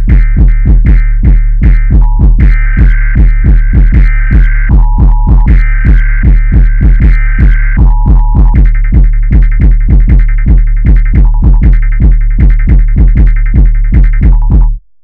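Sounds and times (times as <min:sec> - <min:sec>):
fast kick drums: 0:00.0 - 0:14.8.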